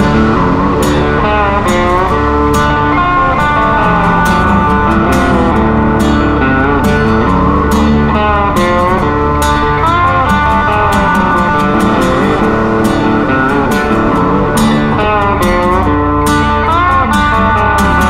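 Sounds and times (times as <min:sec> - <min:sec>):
guitar-led music with beat: 0:00.0 - 0:18.0.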